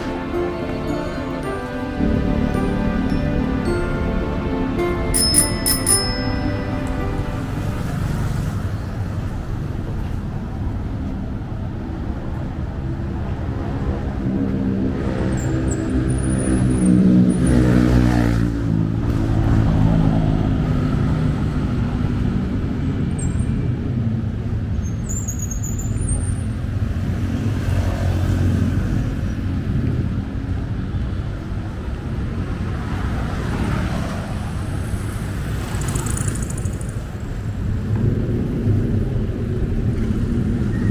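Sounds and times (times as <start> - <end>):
traffic rumble: 0.0 - 40.9.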